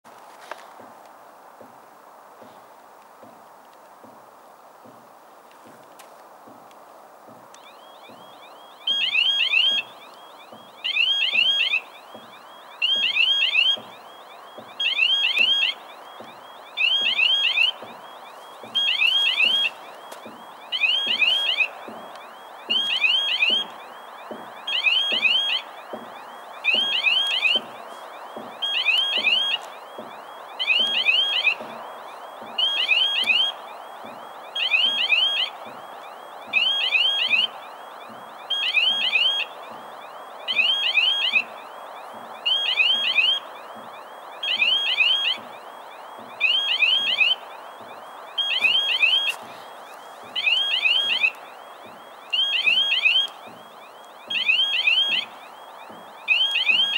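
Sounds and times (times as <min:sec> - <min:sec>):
level crossing warning bell: 0:07.2 - 0:56.9.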